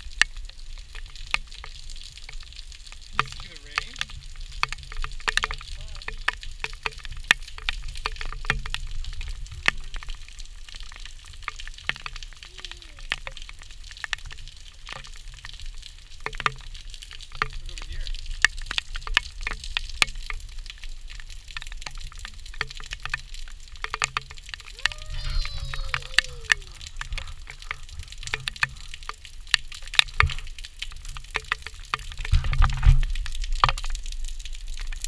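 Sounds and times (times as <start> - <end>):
rain on concrete: 0.0 - 35.0
raindrops clicking: 0.0 - 35.0.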